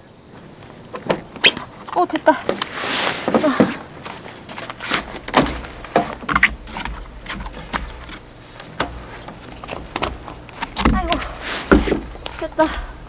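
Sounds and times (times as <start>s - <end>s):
clogs stepping on wooden deck: 0.9s - 13.0s
handling knocks: 1.0s - 13.0s.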